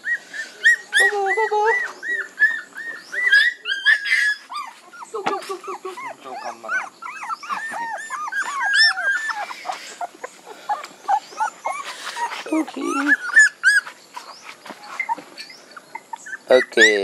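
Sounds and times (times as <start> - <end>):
puppies whimpering and whining: 0.0 - 17.0.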